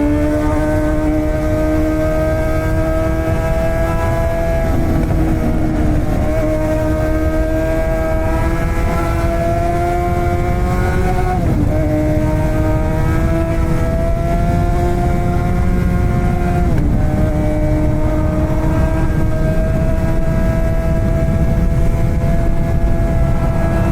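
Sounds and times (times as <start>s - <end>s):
heavy wind noise: 0.0s - 23.9s
motorcycle engine revving: 0.0s - 23.9s.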